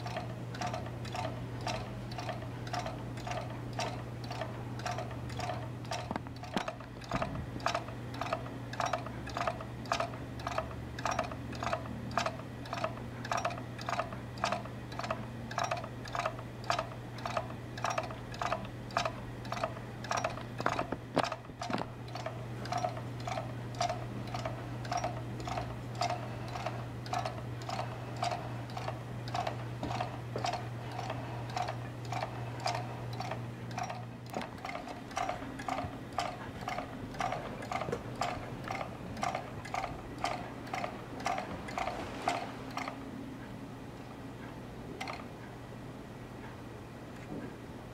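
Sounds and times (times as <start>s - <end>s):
wooden mechanism clicking: 0.0s - 43.0s
steady low hum: 0.0s - 47.9s.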